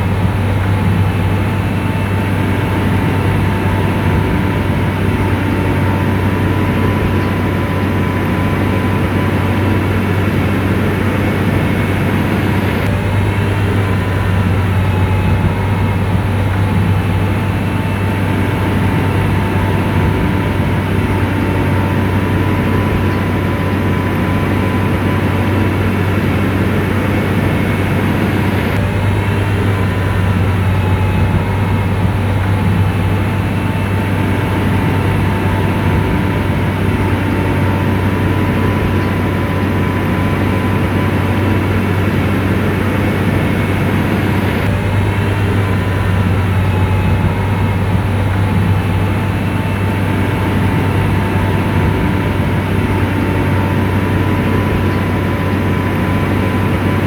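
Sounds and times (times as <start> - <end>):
diesel engine droning: 0.0 - 57.0
faint steady whine: 0.0 - 57.0.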